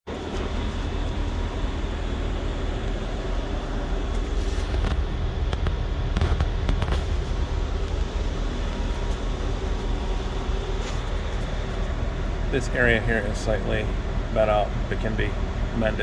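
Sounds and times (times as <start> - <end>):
low mechanical rumble: 0.1 - 16.0.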